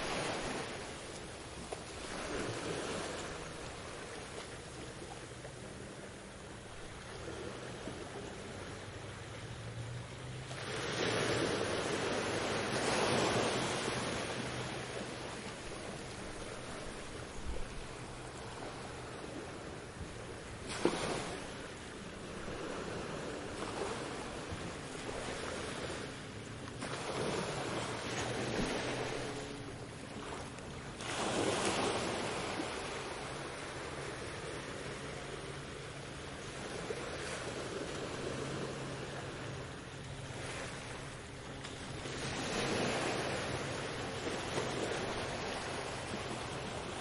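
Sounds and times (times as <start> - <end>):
ocean waves breaking on beach: 0.0 - 47.0.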